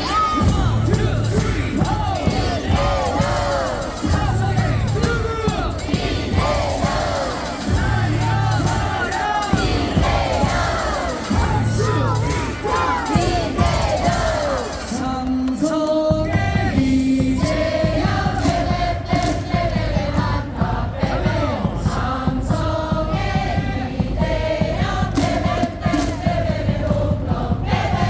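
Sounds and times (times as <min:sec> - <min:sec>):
amplified stadium music: 0:00.0 - 0:28.0
crowd singing in unison: 0:00.0 - 0:28.0.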